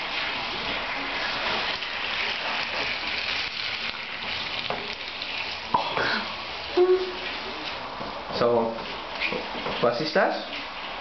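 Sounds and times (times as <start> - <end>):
chicken and onions sizzling in pan: 0.0 - 9.6.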